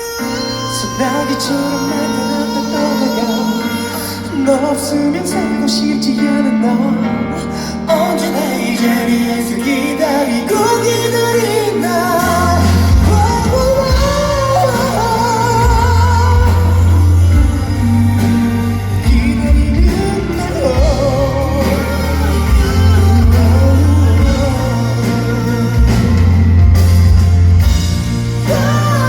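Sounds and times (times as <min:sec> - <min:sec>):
live pop rock band: 0:00.0 - 0:29.0
wordless singing: 0:00.0 - 0:29.0.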